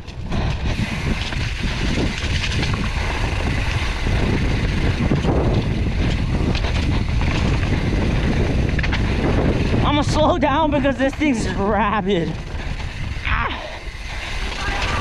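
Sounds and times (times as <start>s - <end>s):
bike rattling over rough trail: 0.0s - 15.0s
wind buffeting microphone: 0.0s - 15.0s.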